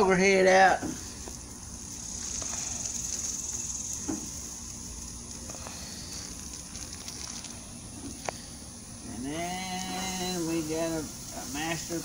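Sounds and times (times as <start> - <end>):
meat sizzling on a charcoal grill: 0.0 - 12.0
faint crackles: 0.8 - 12.0.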